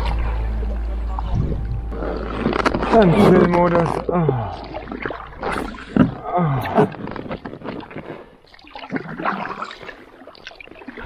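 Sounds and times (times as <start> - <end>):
paddle splashing into water: 1.2 - 11.0.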